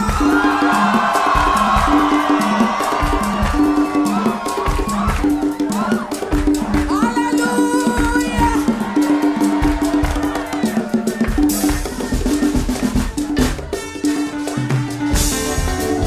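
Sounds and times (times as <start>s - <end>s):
live band playing praise music: 0.0s - 16.0s
percussion and drum kit: 0.0s - 16.0s.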